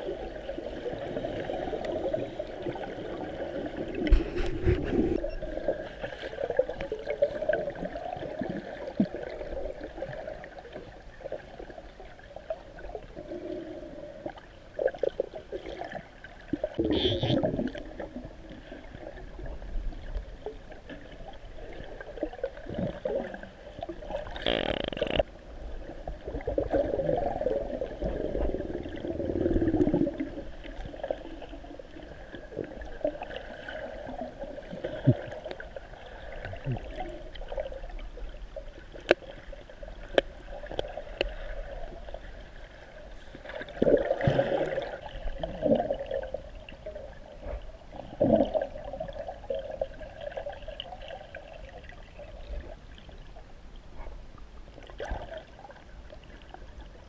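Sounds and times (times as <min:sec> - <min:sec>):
water gurgling and sloshing: 0:00.0 - 0:57.0.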